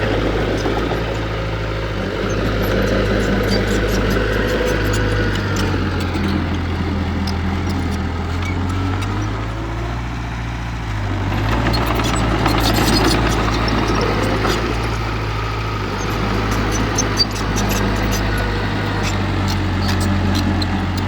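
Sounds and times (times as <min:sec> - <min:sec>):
diesel engine of heavy machinery: 0:00.0 - 0:21.0.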